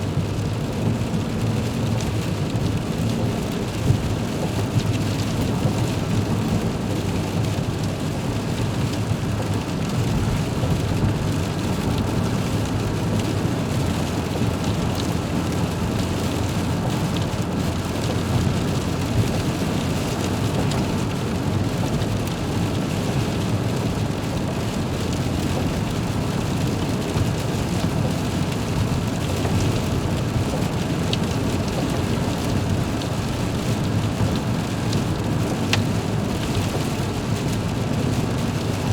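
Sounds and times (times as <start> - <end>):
heavy rain on windshield: 0.0 - 38.9.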